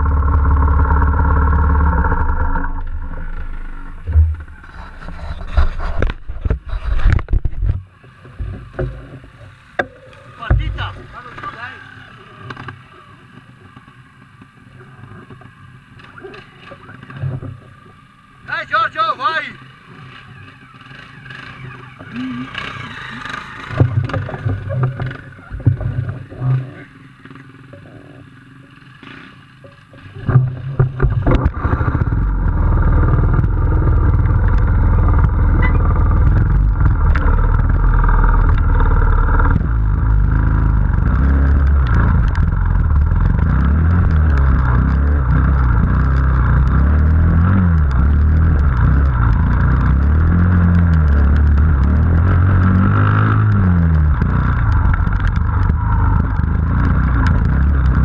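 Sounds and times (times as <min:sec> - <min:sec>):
motorcycle engine revving: 0:00.0 - 0:18.5, 0:19.5 - 0:58.0.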